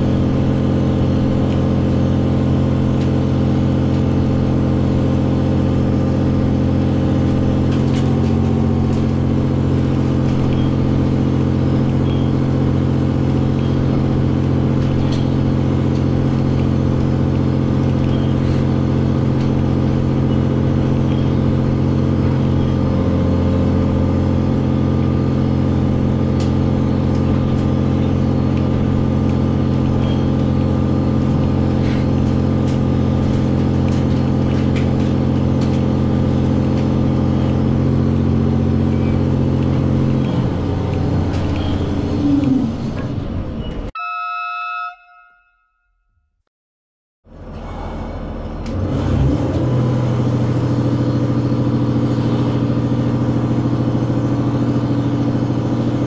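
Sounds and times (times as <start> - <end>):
railcar engine drone: 0.0 - 45.5, 47.3 - 56.0.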